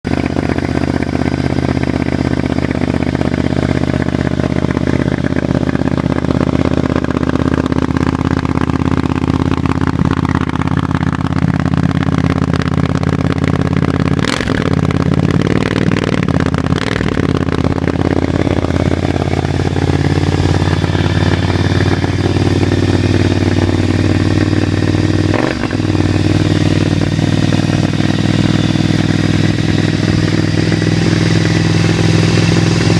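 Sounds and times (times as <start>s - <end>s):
motorcycle engine idling: 0.1s - 32.9s
exhaust cracks: 4.3s - 32.9s.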